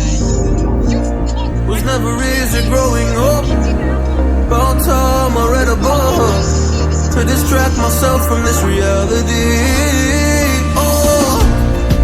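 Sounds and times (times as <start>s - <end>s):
song with melodic lead and bass: 0.0s - 12.0s.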